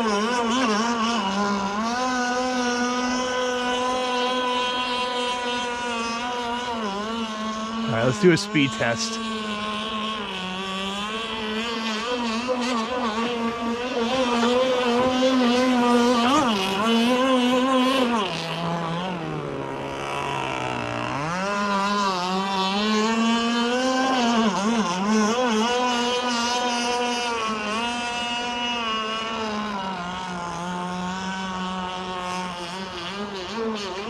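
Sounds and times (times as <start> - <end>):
two-stroke boat engine revving: 0.0 - 34.0.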